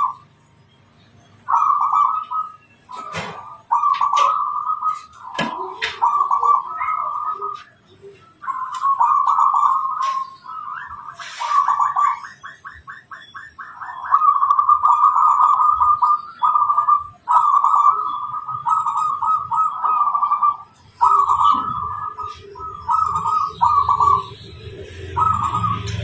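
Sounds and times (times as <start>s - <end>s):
dove cooing: 0.0s - 0.2s, 1.5s - 26.0s.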